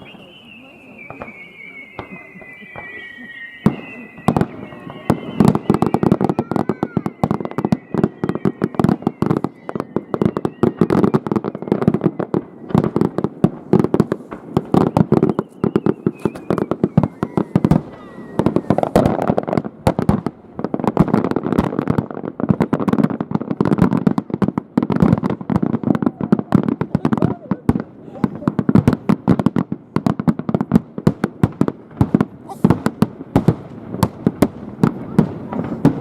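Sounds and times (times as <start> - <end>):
fireworks bangs and crackles: 0.0 - 36.0
fireworks whistling downward: 0.0 - 36.0.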